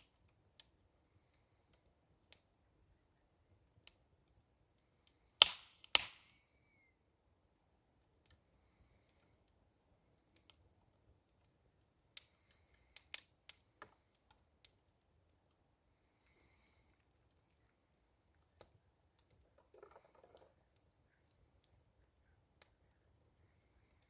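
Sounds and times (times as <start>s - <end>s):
fire crackling and popping: 0.0s - 6.4s, 7.0s - 24.0s.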